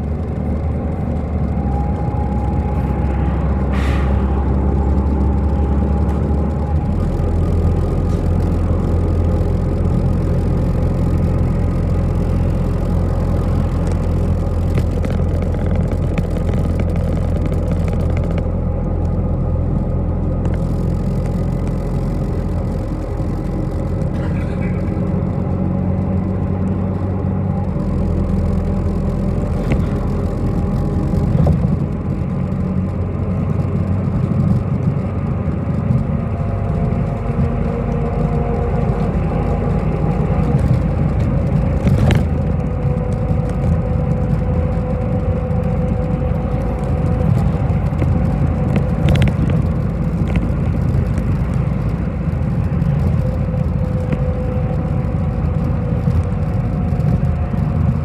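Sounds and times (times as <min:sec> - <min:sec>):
bus engine and road rumble: 0:00.0 - 0:58.0
drivetrain whine: 0:00.0 - 0:58.0
sharp rattles and knocks: 0:00.0 - 0:58.0.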